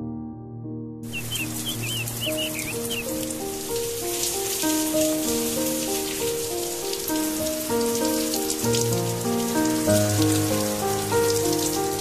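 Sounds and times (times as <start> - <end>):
soft background music: 0.0 - 12.0
rain on wet concrete: 1.1 - 12.0.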